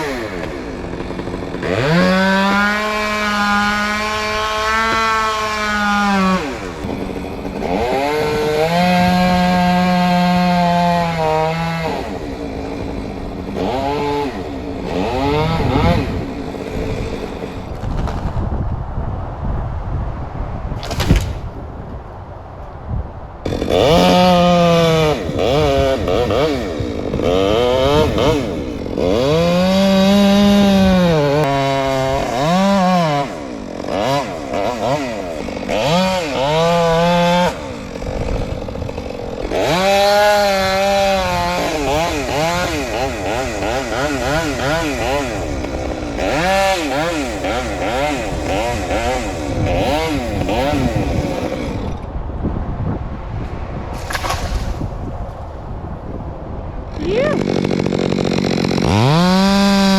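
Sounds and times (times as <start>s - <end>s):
chainsaw cutting wood: 0.0s - 18.7s, 20.8s - 21.7s, 23.4s - 52.6s, 53.4s - 55.3s, 56.7s - 59.9s.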